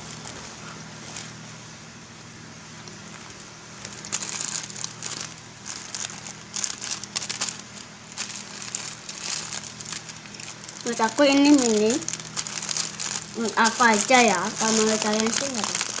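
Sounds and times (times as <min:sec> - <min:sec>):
plastic crinkling and rustling: 0:00.0 - 0:01.4, 0:02.8 - 0:16.0
faint low steady hum: 0:00.0 - 0:16.0.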